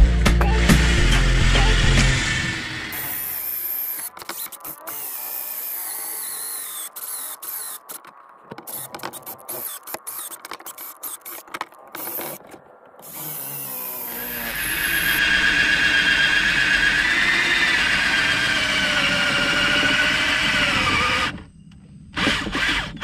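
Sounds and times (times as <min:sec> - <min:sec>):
battery drill whining into wood: 0:00.6 - 0:12.4, 0:13.0 - 0:21.5, 0:22.1 - 0:23.0.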